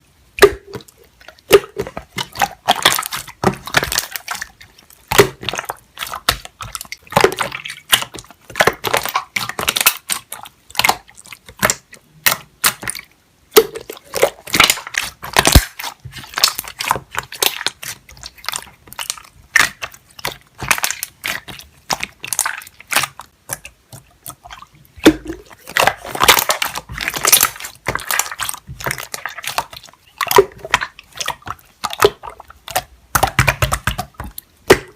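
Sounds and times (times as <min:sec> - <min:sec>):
slime squelching wet clicks: 0:00.4 - 0:34.9.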